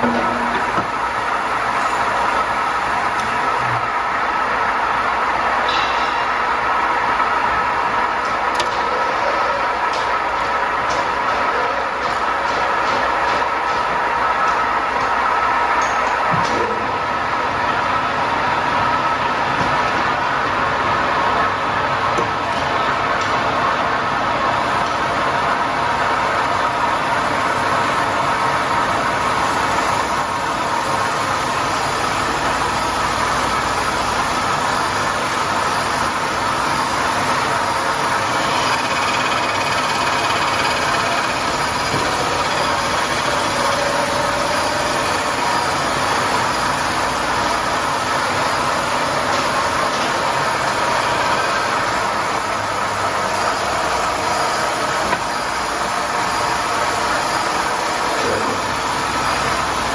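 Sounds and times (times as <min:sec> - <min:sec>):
grinding machine hum and hiss: 0:00.0 - 0:59.9.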